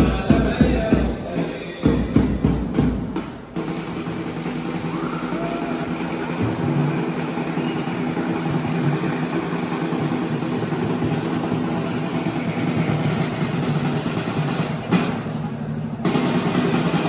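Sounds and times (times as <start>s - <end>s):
large drums rolling: 0.0s - 17.0s.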